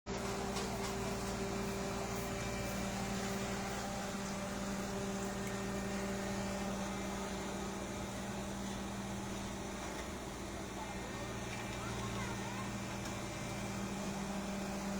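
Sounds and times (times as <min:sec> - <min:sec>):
road roller engine humming: 0:00.0 - 0:14.9.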